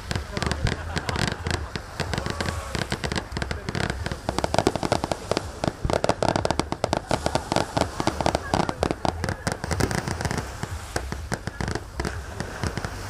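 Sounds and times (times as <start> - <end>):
fireworks bangs and crackling pops: 0.0 - 13.0.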